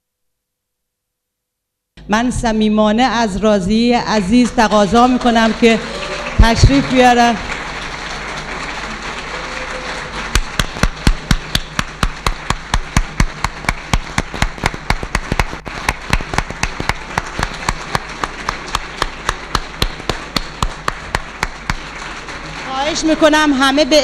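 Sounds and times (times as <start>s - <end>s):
audience clapping in unison: 4.1s - 24.0s.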